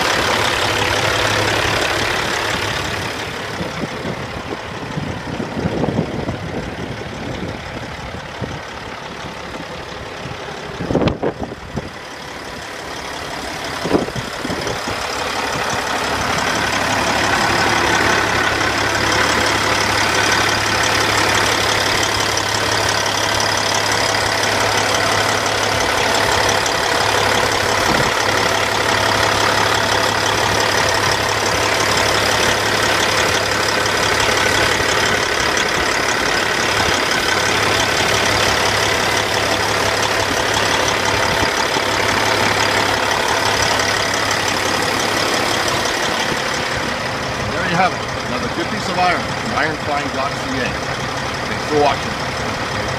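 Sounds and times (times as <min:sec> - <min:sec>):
diesel truck engine idling: 0:00.0 - 0:52.9.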